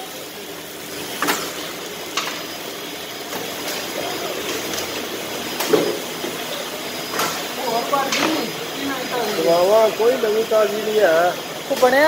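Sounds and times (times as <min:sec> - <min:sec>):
packaging machinery and conveyor running: 0:00.0 - 0:12.0.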